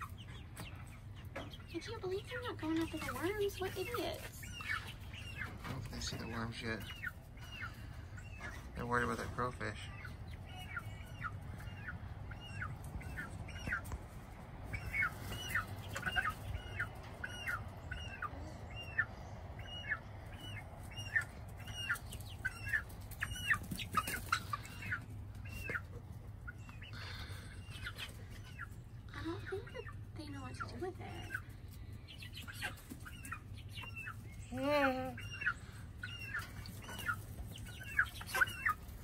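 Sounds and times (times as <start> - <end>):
chicks peeping: 0.0 - 39.0.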